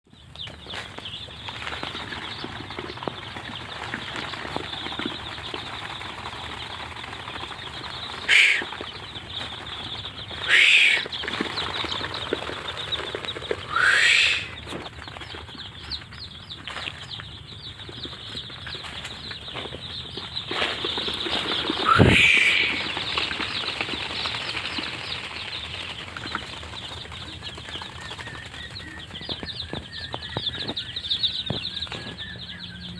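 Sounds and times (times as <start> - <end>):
chicks peeping: 0.1 - 32.9
rustling and scratching: 0.2 - 13.7, 14.4 - 32.4
loud rising chick calls: 0.7 - 16.2, 16.9 - 32.9.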